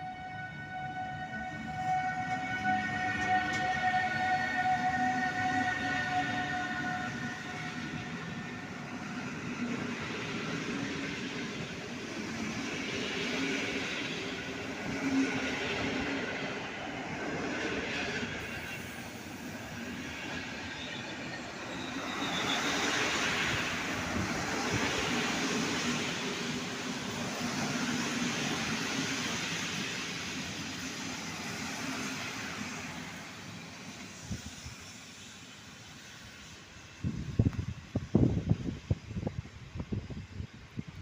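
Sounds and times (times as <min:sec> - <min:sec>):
train wheels rolling on rails: 0:01.3 - 0:41.0.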